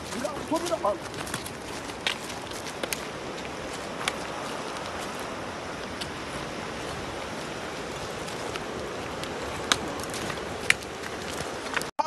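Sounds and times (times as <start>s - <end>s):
footsteps on rocky ground: 0.0s - 11.9s
steady rushing noise: 0.0s - 11.9s.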